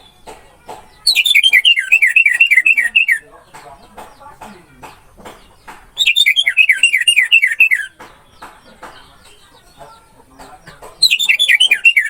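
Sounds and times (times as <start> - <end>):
faint bird chatter: 0.0 - 12.0.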